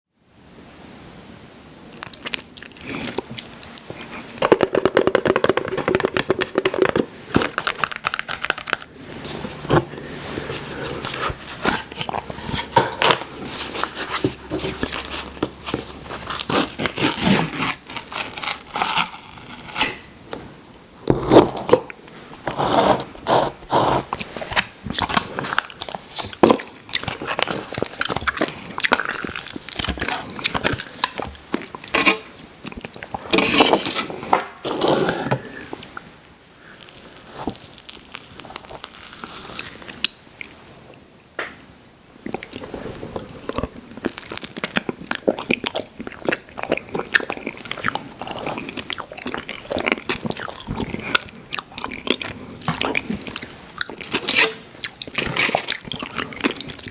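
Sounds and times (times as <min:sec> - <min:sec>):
eating ice cream close up: 0:01.9 - 0:41.1, 0:42.2 - 0:56.9.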